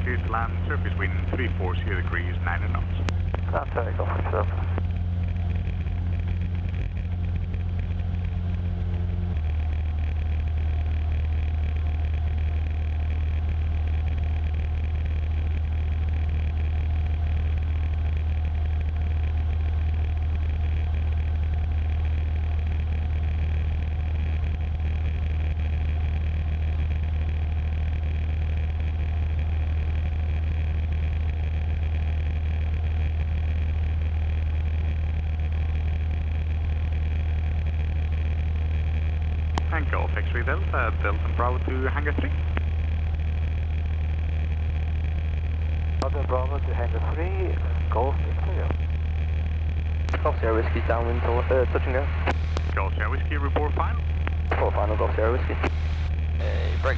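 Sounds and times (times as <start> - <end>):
aircraft engine drone: 0.0 - 56.9.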